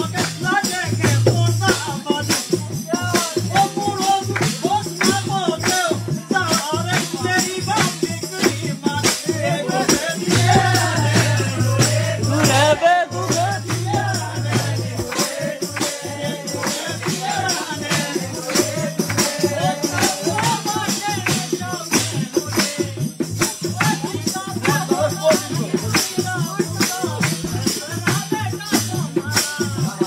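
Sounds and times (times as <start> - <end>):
quick percussion beat: 0.0 - 30.0.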